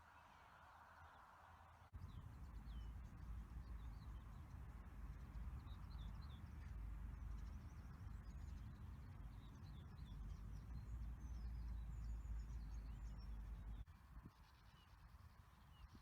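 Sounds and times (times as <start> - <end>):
small birds chirping: 1.9 - 16.0.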